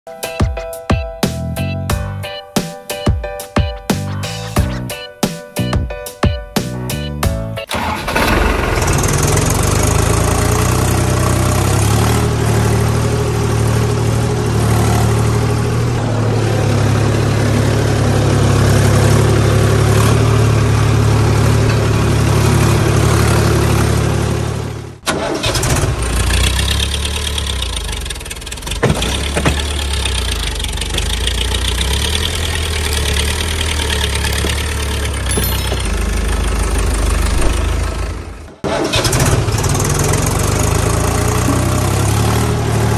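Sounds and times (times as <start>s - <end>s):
engine running: 7.7s - 42.9s
tractor engine idling: 7.7s - 42.9s.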